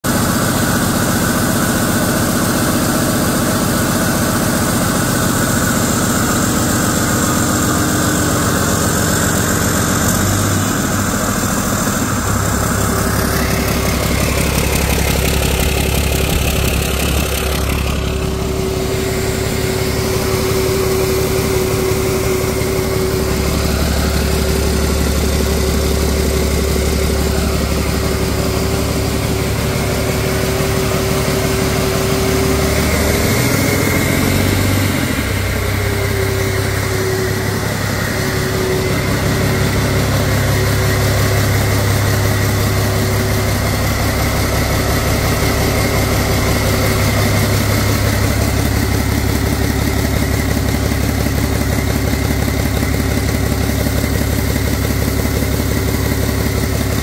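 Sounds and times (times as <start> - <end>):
diesel engine idling: 0.0 - 57.0
steady high whine: 3.4 - 57.0.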